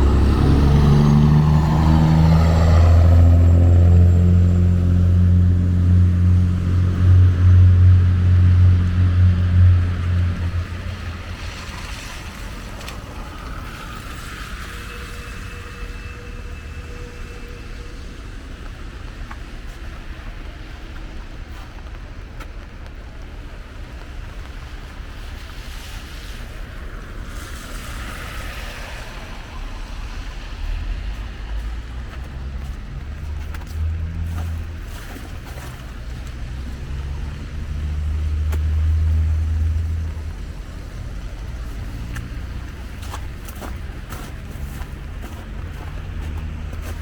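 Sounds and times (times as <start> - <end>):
car tyres hissing on wet street: 0.0 - 47.0
vehicle engine rumble: 0.0 - 47.0.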